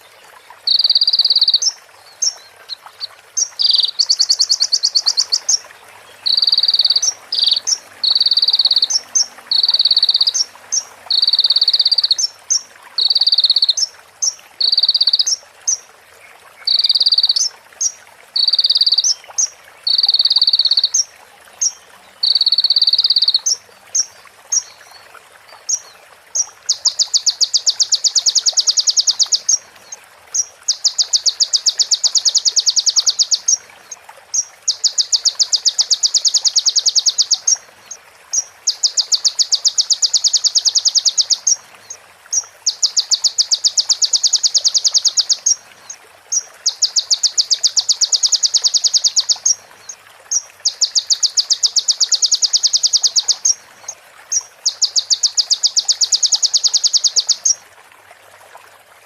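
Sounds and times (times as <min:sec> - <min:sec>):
songbird ticking trill: 0:00.6 - 0:15.8, 0:16.6 - 0:24.8, 0:25.6 - 0:29.6, 0:30.3 - 0:57.6.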